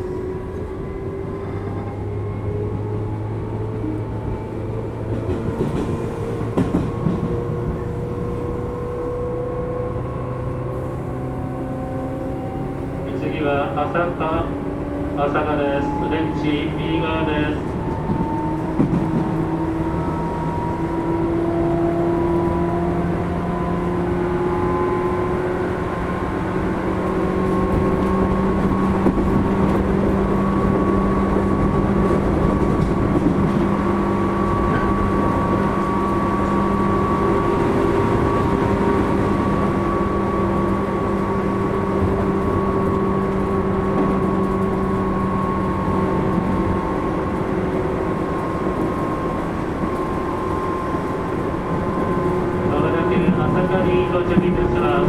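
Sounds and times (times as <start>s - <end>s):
train motor and gear whine: 0.0s - 55.0s
train rolling rumble: 0.0s - 55.0s.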